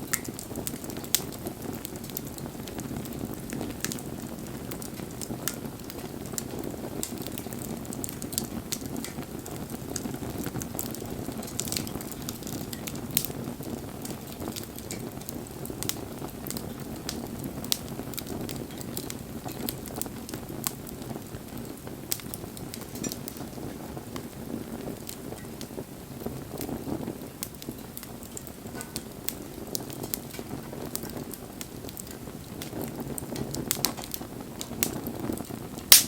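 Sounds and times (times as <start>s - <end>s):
fire crackles and pops: 0.0s - 36.0s
low rush of flame: 0.0s - 36.0s.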